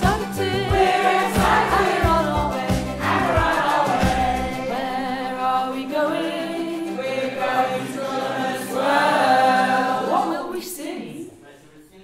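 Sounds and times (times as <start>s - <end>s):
group of teenagers singing: 0.0s - 11.4s.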